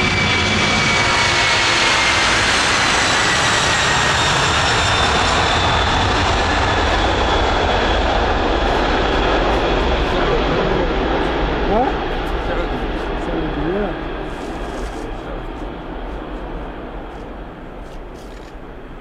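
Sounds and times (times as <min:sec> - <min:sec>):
jet engines roaring with high whine: 0:00.0 - 0:19.0.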